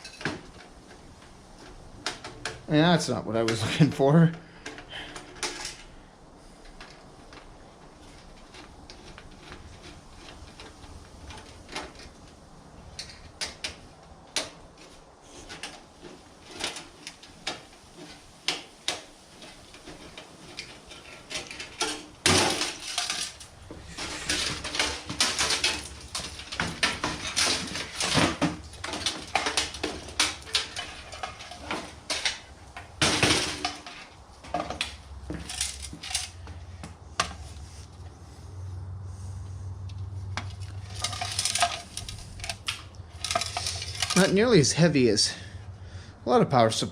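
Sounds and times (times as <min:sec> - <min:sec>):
metal parts and tools clattering: 0:00.0 - 0:06.0, 0:06.6 - 0:37.5, 0:40.4 - 0:45.4.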